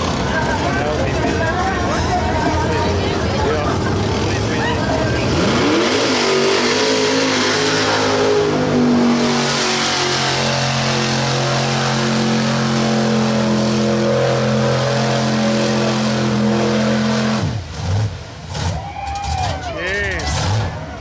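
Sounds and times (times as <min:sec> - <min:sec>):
truck diesel engine at high revs: 0:00.0 - 0:21.0.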